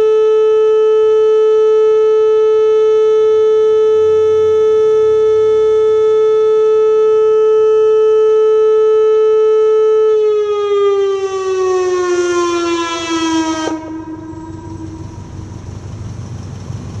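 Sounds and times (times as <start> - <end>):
electronic warning siren: 0.0 - 16.5.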